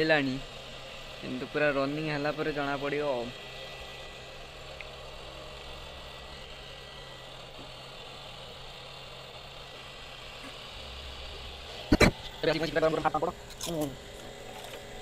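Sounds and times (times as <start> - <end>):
cooling fans humming: 0.0 - 15.0.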